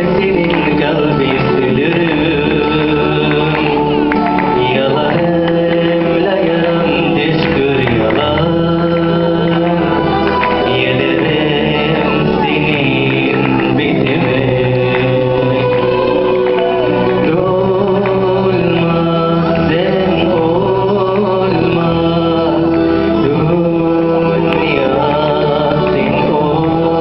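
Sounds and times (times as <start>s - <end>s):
backing music: 0.0s - 27.0s
man singing into microphone: 0.0s - 27.0s.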